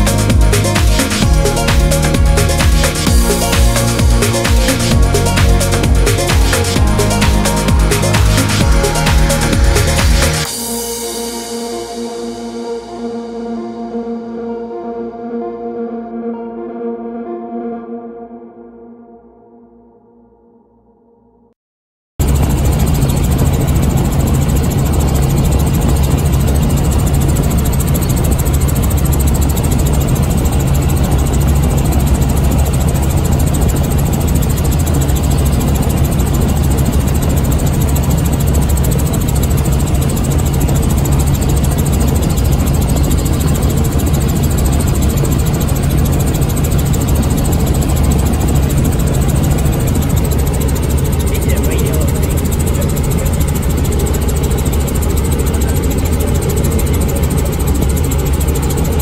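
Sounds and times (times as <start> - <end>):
helicopter cabin drone: 0.0 - 19.7, 22.2 - 59.0.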